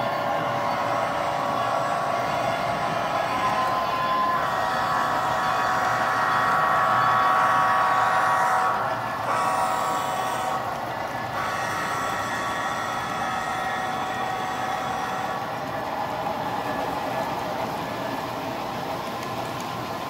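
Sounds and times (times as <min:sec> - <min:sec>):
model train humming past: 0:00.0 - 0:20.0.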